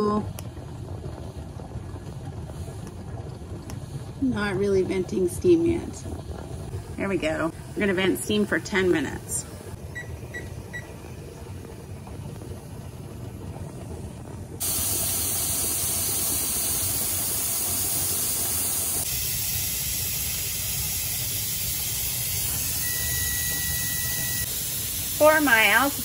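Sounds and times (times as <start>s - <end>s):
steam hissing from vent pipe: 0.0s - 9.9s, 11.3s - 26.0s.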